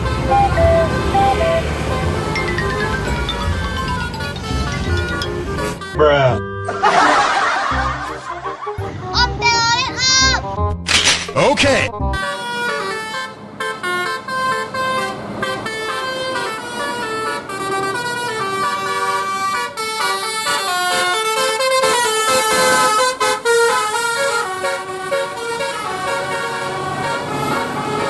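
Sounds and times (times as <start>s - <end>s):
bus horn playing a melody: 0.0s - 7.0s, 11.9s - 28.0s.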